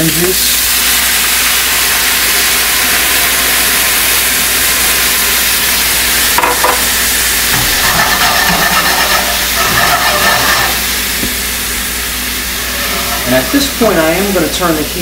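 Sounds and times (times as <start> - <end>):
juice sizzling in hot skillet: 0.0 - 15.0.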